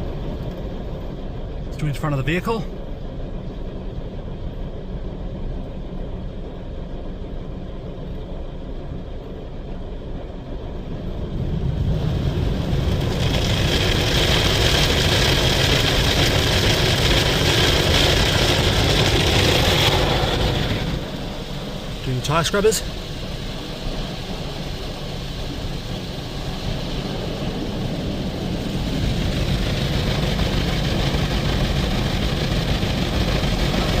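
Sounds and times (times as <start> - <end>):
low rumble of car wash machinery: 0.0 - 34.0.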